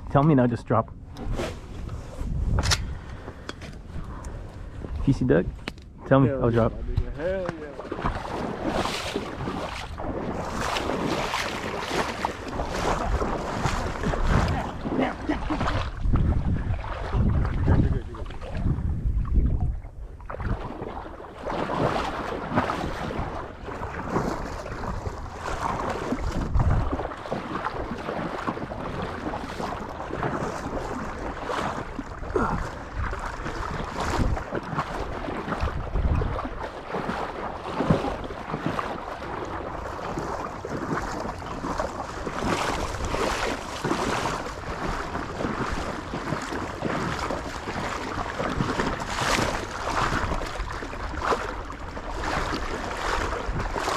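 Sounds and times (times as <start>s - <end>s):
water sloshing: 0.0s - 53.9s
wind buffeting microphone: 0.0s - 53.9s.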